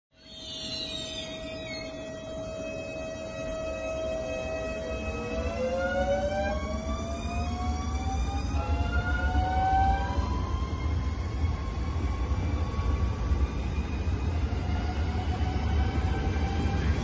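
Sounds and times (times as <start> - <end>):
electric train traction whine: 0.2 - 17.0
wheels rumbling on rails: 0.6 - 17.0.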